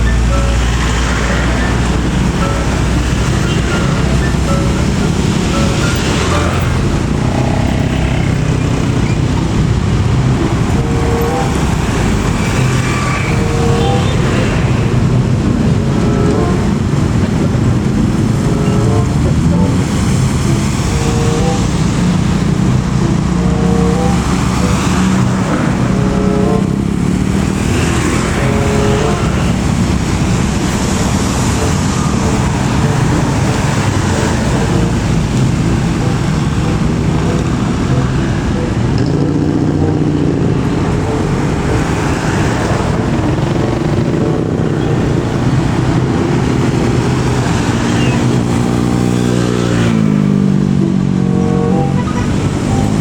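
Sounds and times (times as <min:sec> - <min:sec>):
trucks and buses passing: 0:00.0 - 0:53.0.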